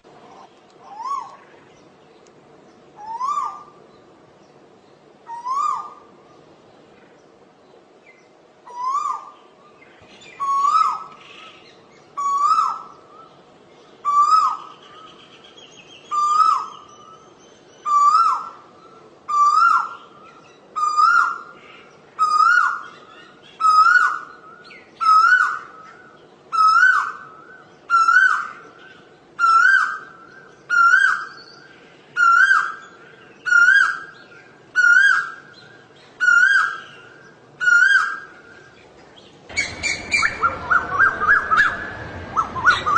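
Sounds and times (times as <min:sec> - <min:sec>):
bird calling: 0:00.0 - 0:07.3, 0:08.0 - 0:42.9.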